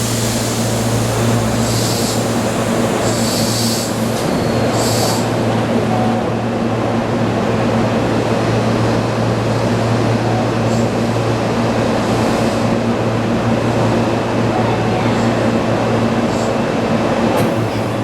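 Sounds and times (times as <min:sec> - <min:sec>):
electric train low hum: 0:00.0 - 0:18.0.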